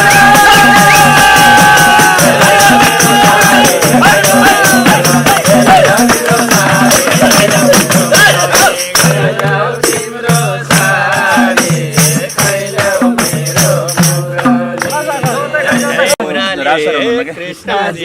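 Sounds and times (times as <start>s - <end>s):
shaken jingling percussion: 0.0s - 16.2s
folk music with jingling percussion: 0.0s - 16.4s.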